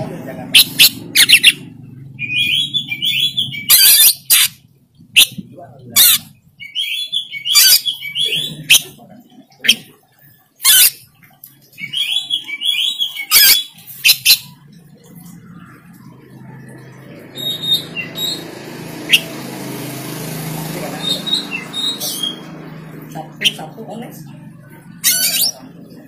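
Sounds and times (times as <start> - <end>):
bird singing and chattering: 0.1 - 26.0.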